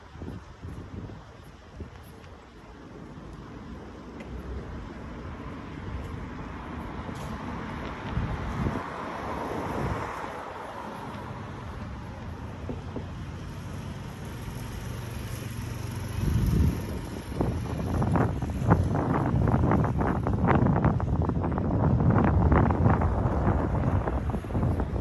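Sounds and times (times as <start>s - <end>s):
wind buffeting microphone: 0.0s - 25.0s
car passing: 3.8s - 25.0s.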